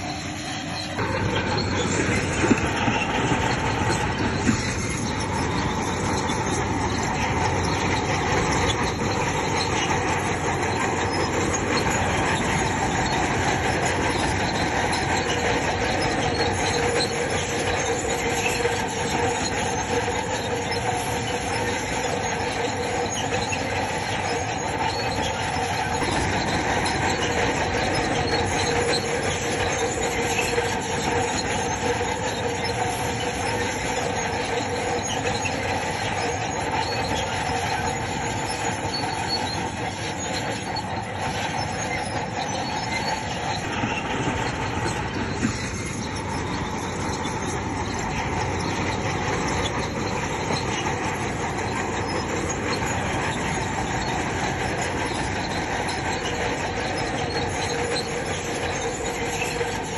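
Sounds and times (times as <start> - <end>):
diesel engine running: 0.0 - 59.9
steel tracks squealing and clattering: 0.0 - 59.9.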